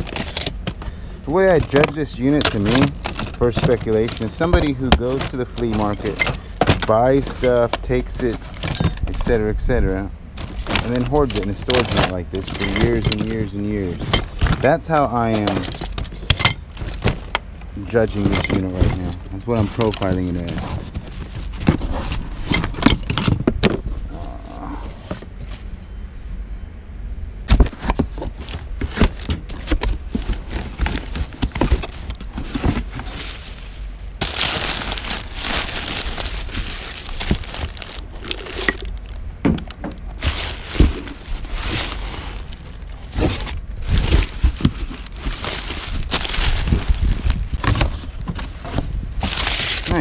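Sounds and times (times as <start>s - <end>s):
packing paper crinkling: 0.0s - 22.9s, 27.6s - 39.2s, 40.0s - 50.0s
items clattering in boxes: 0.0s - 23.9s, 27.5s - 50.0s.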